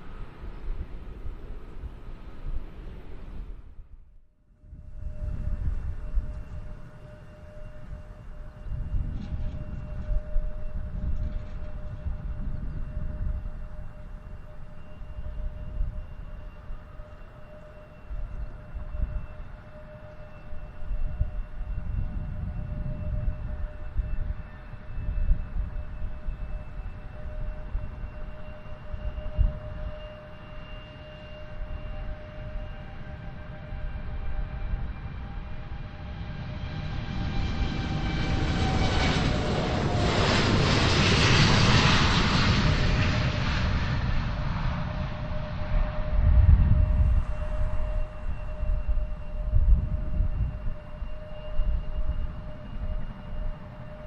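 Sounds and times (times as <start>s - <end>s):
low gusty rumble: 0.0s - 17.2s, 17.9s - 30.2s, 31.4s - 54.0s
jet engine whine: 0.0s - 54.0s.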